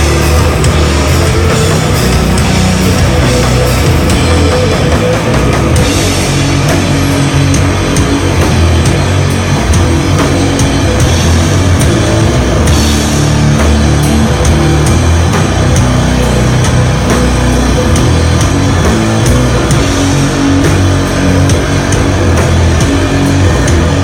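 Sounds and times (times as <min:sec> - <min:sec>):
bass holding low notes: 0:00.0 - 0:24.0
distorted electric guitars: 0:00.0 - 0:24.0
slow drum beat: 0:00.0 - 0:24.0.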